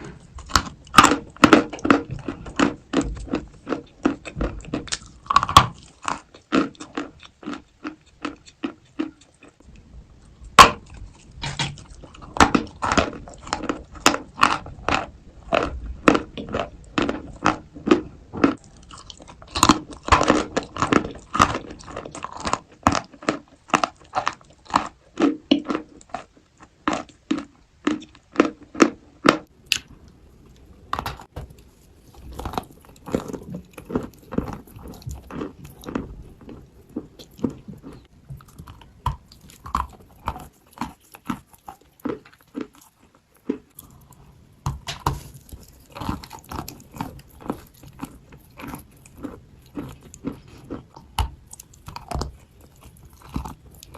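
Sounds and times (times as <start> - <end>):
crunchy chewing of dry clay: 0.0 - 53.9.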